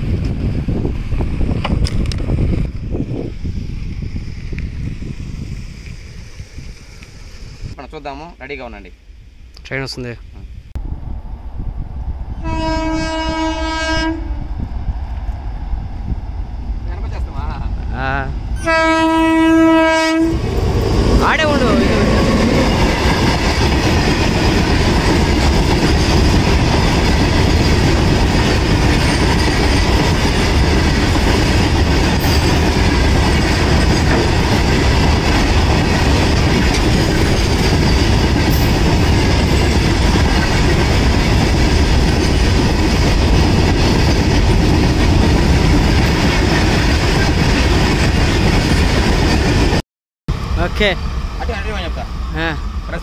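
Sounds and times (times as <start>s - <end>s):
train wheels rumbling on rail: 0.0s - 8.3s, 10.3s - 53.0s.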